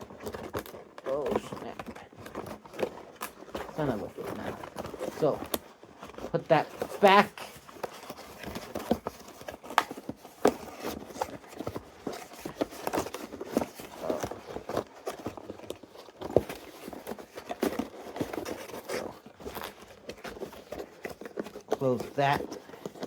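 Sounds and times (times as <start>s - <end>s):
packaging rustling: 0.0s - 23.0s.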